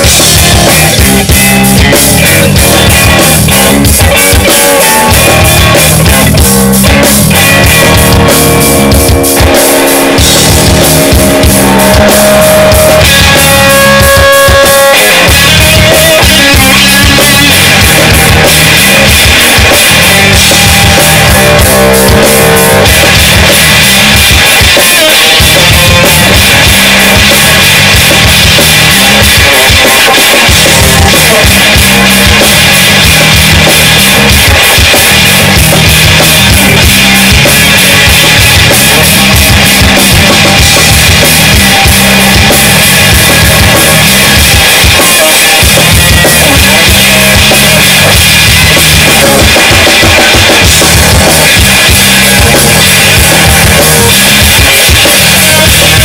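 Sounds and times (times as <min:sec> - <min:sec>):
bending guitar notes: 0:00.0 - 0:56.0
blues-rock band playing: 0:00.0 - 0:56.0.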